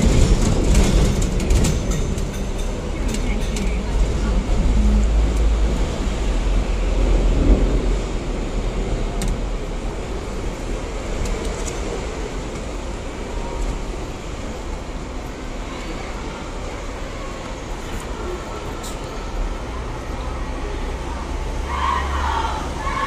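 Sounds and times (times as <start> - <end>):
street traffic: 0.0 - 23.0
tram wheels rumbling on rails: 0.0 - 23.0.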